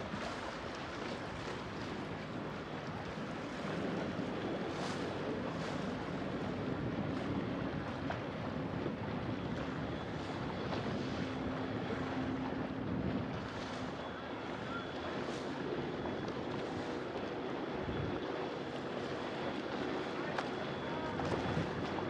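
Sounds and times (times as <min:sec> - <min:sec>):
wind on microphone: 0:00.0 - 0:17.0, 0:17.6 - 0:19.8, 0:20.8 - 0:22.0
boat engine running: 0:00.0 - 0:22.0
water along hull: 0:00.0 - 0:22.0.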